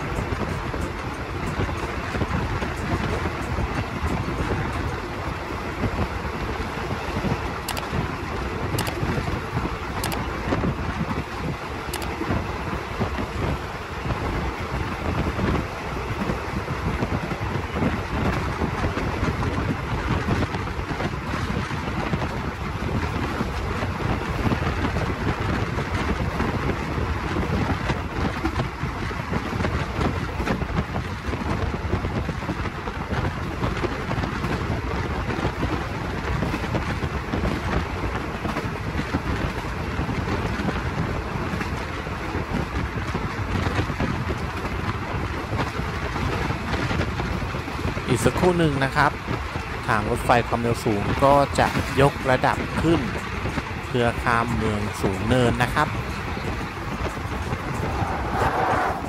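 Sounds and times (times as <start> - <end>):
train rumbling: 0.0 - 59.0
wind on microphone: 0.0 - 59.0.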